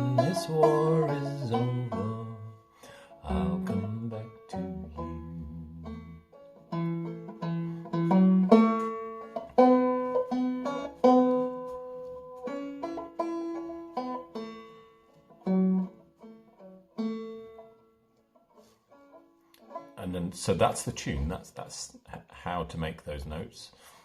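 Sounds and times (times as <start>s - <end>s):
banjo picking a melody: 0.0s - 22.8s.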